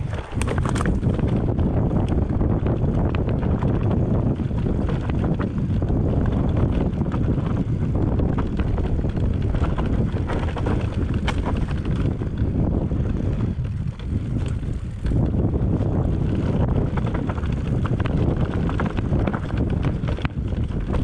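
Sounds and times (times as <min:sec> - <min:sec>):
clicks and knocks over stony ground: 0:00.0 - 0:21.0
wind buffeting microphone: 0:00.0 - 0:21.0.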